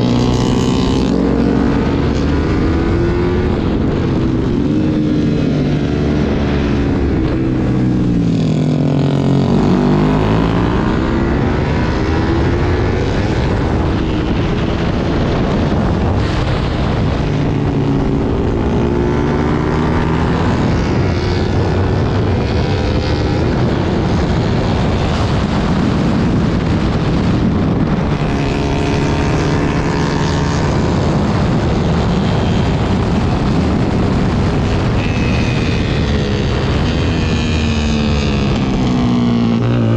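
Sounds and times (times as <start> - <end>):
motorcycle engine at speed: 0.0 - 39.9
wind rushing: 0.0 - 39.9.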